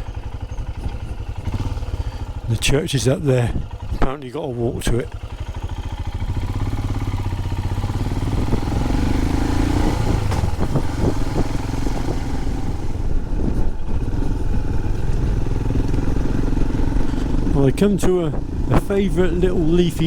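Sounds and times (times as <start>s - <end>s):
motorcycle engine pulsing exhaust: 0.0s - 20.0s.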